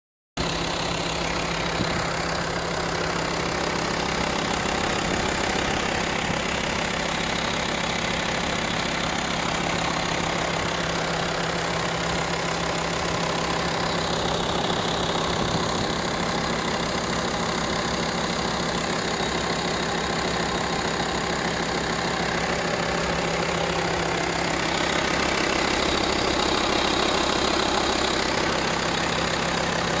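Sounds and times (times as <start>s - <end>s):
diesel engine idling: 0.4s - 30.0s.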